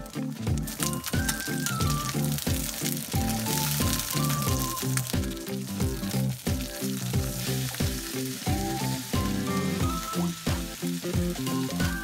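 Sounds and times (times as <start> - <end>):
background music with steady beat: 0.0 - 12.0
chicken sizzling in oil: 0.0 - 12.0.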